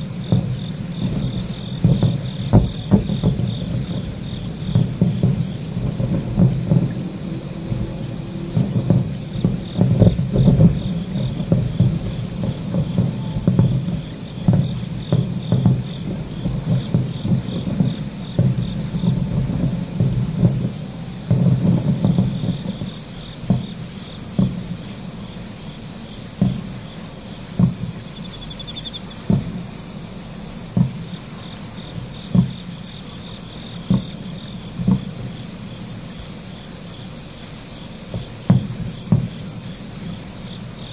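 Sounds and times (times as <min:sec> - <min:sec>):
distant fireworks booming: 0:00.0 - 0:40.9
insect chirring: 0:00.0 - 0:40.9.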